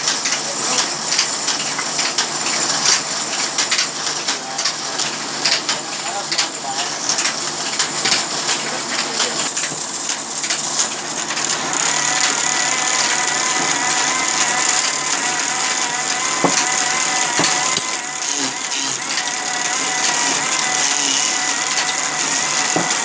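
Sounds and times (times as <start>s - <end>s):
sawmill machinery rattling: 0.0s - 23.0s.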